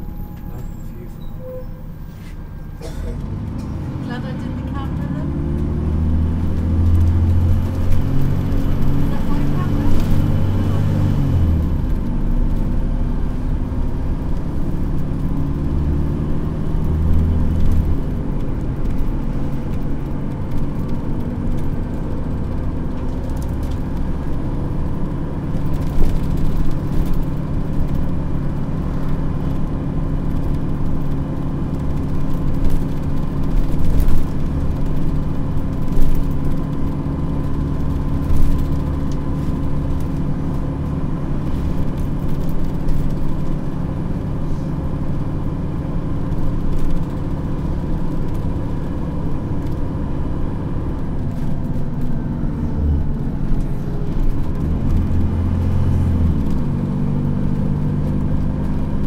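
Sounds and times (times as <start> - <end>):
bus diesel engine pulling hard: 0.0 - 59.0.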